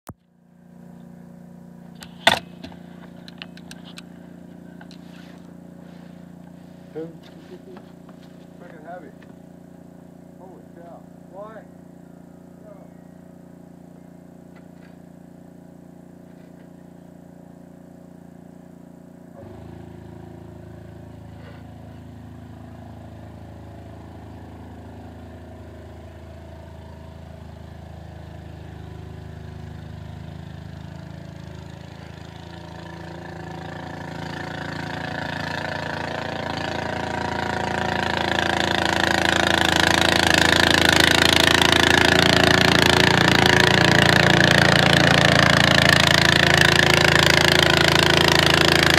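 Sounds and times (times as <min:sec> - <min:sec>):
small engine running: 0:00.1 - 0:48.9.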